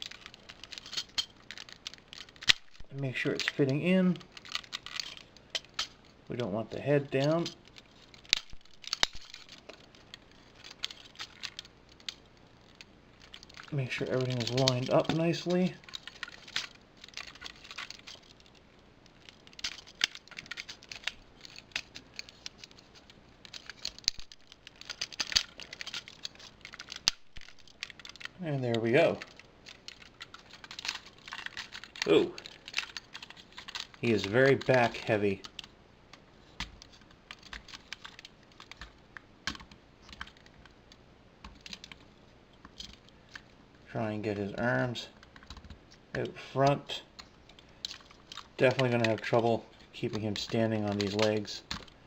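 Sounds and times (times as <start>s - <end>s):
plastic parts clicking and scraping: 0.0s - 43.6s, 44.2s - 52.0s.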